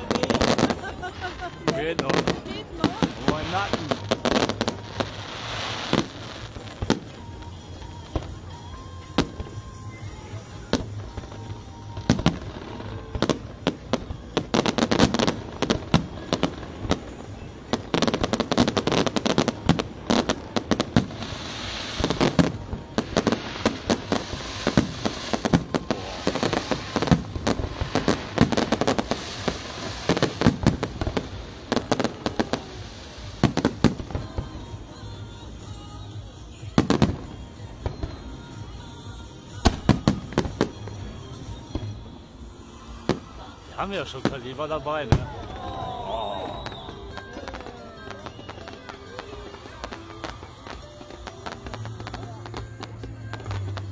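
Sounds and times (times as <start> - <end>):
crackling fireworks: 0.0 - 53.9.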